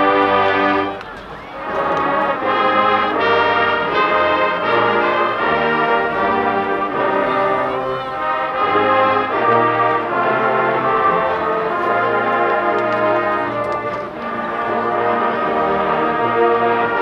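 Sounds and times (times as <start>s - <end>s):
marching band brass chords: 0.0s - 17.0s.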